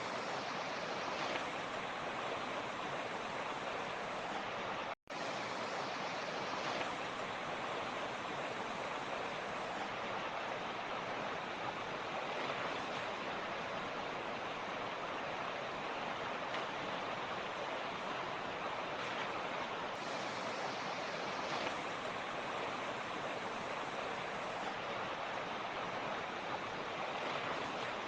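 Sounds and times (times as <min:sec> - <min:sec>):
creek water rushing over rocks: 0:00.0 - 0:28.0.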